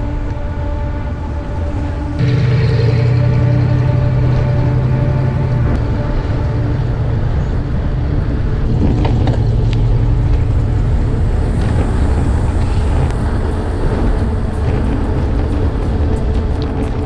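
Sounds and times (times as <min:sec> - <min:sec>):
road and traffic noise: 0:00.0 - 0:17.0
wind rumble on microphone: 0:00.0 - 0:17.0.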